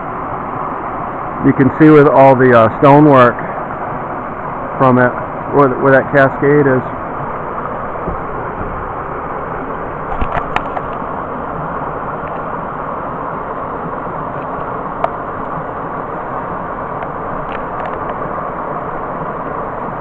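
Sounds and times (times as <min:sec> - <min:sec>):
water rushing over cascade: 0:00.0 - 0:20.0.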